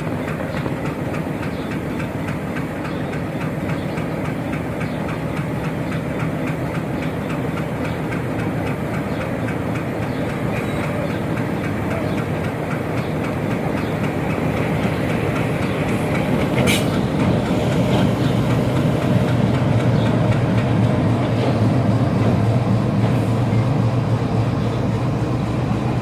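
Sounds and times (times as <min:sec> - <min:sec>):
train engine rumble and hum: 0:00.0 - 0:26.0
wheels clicking on track: 0:00.0 - 0:26.0.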